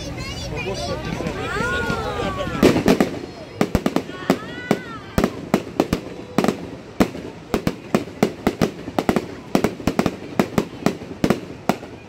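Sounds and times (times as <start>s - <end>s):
fireworks banging: 0.1s - 12.0s.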